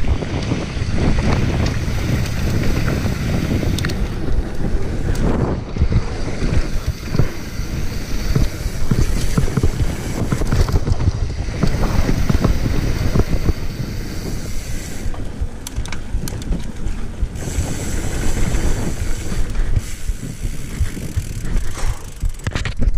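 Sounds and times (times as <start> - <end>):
bike parts rattling: 0.0 - 22.9
tyres on loose dirt: 0.0 - 22.9
wind rushing over microphone: 0.0 - 22.9.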